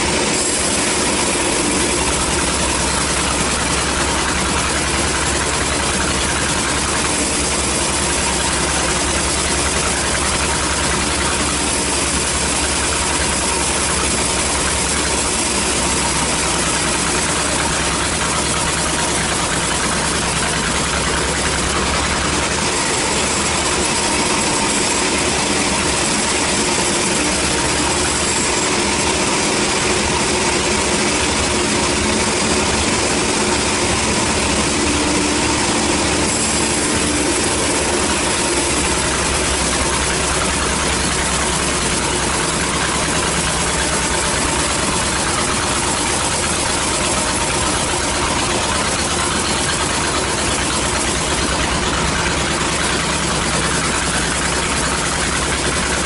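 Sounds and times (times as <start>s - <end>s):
band saw cutting a log: 0.0s - 56.0s.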